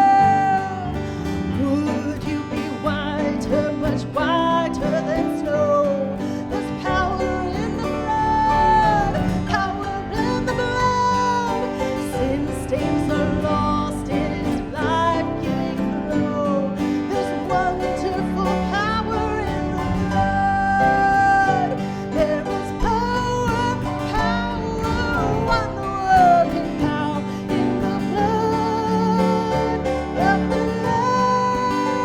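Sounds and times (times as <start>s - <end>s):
guitar: 0.0s - 32.0s.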